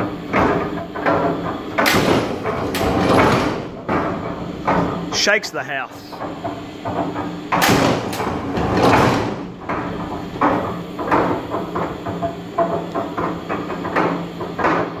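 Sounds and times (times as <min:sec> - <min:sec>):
machine drive hum: 0:00.0 - 0:15.0.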